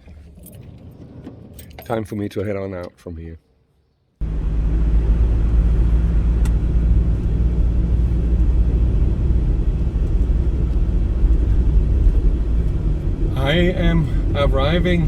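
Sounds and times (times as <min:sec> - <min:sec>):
van engine and road noise: 0:00.0 - 0:02.6, 0:04.2 - 0:15.0.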